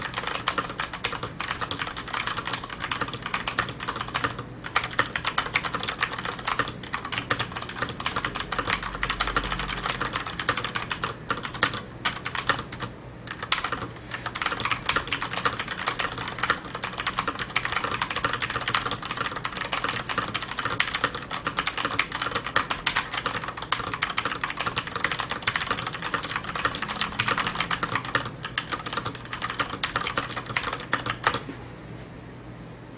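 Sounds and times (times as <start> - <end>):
mechanical keyboard typing: 0.0 - 31.4.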